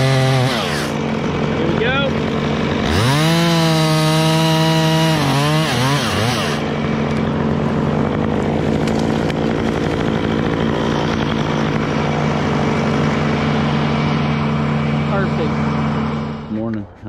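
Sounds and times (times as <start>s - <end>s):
chainsaw winding down: 0.0s - 16.5s
engine droning: 0.0s - 17.0s.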